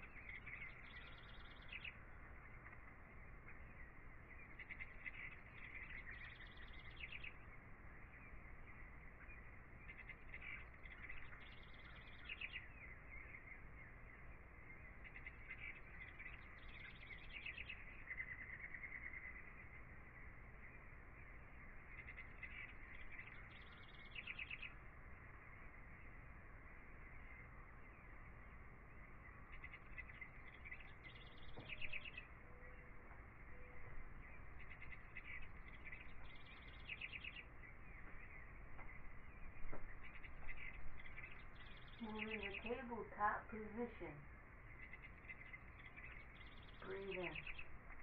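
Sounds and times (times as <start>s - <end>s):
warbling bird trill: 0.0s - 26.2s, 28.9s - 48.0s
birds chirping and twittering: 0.0s - 48.0s.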